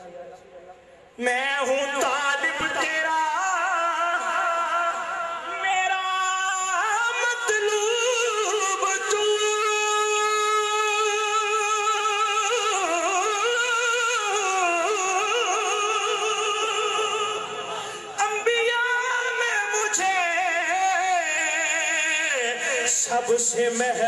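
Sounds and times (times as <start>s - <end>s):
man singing: 0.0s - 24.0s.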